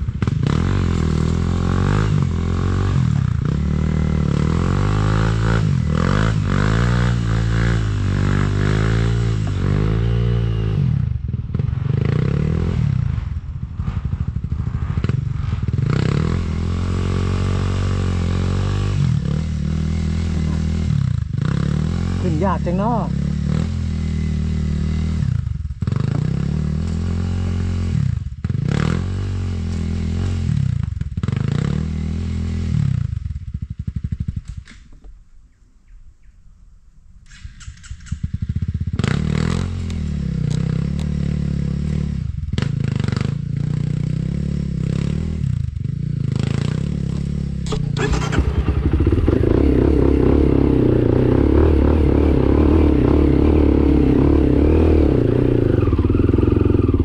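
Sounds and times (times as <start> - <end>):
dirt bike engine revving: 0.0 - 34.5, 37.4 - 57.0.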